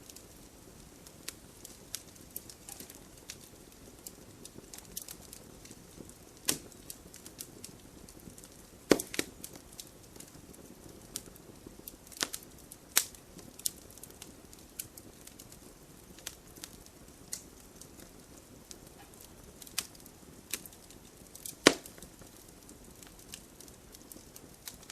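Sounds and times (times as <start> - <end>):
fire crackling and popping: 0.0 - 24.9.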